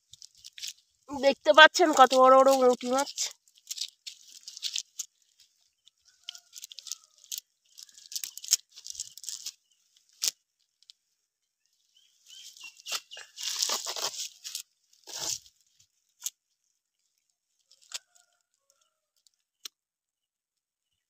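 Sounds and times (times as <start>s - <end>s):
dry grass and leaves rustling: 0.0s - 19.7s.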